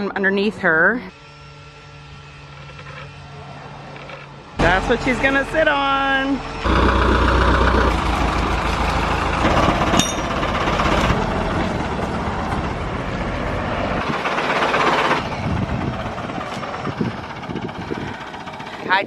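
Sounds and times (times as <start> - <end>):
rattling vehicle engine: 2.0 - 19.0.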